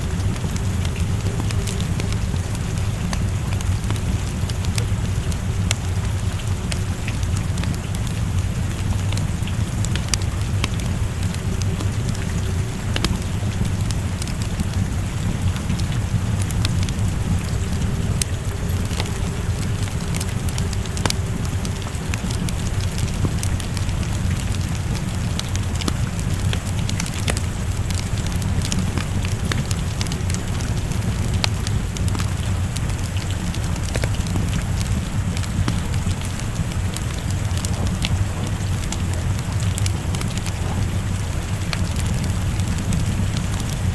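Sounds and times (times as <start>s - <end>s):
low rumble: 0.0s - 43.9s
steady rain: 0.0s - 43.9s
wood fire crackling: 0.0s - 43.9s.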